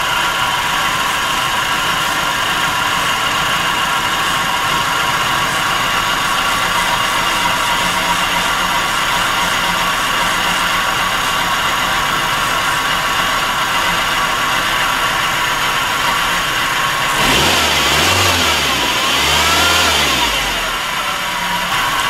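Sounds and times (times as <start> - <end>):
car engine idling rough: 0.0 - 22.0.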